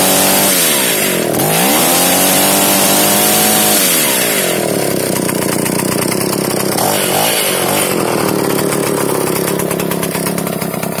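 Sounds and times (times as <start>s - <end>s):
two-stroke engine running: 0.0s - 11.0s.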